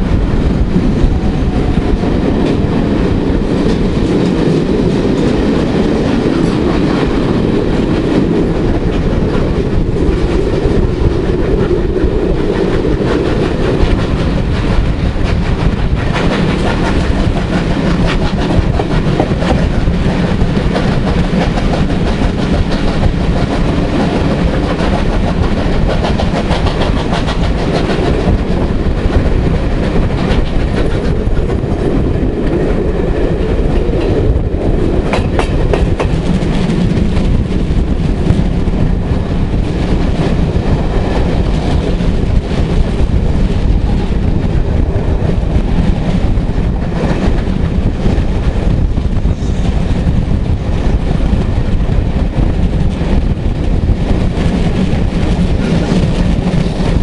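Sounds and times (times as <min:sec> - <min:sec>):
train running noise and wind: 0:00.0 - 0:57.0.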